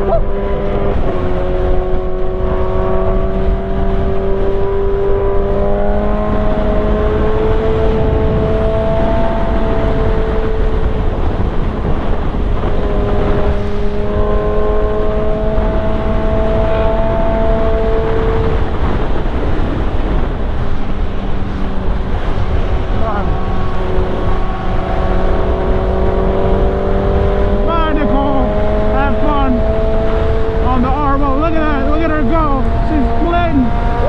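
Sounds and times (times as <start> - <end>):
motorcycle engine running: 0.0 - 34.0
wind rush on microphone: 0.0 - 34.0.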